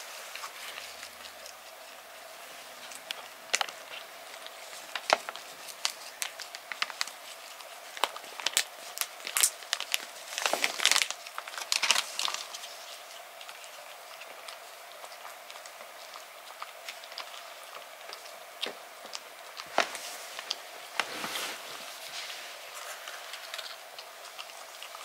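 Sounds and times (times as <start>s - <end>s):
cat licking and chewing: 0.0s - 25.0s.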